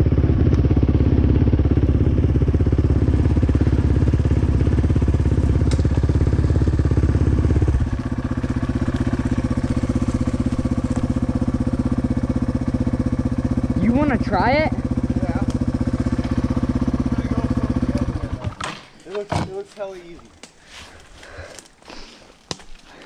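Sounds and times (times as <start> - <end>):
dirt bike engine idling: 0.0 - 22.2.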